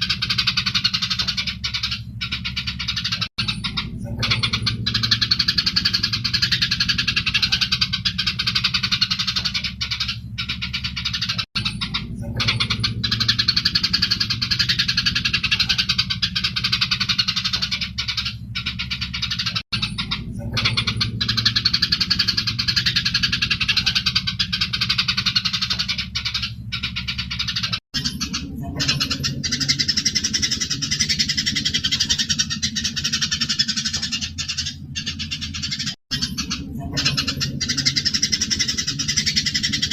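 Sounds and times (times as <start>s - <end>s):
sparrows chattering: 0.0s - 39.9s
steady low hum: 0.0s - 39.9s.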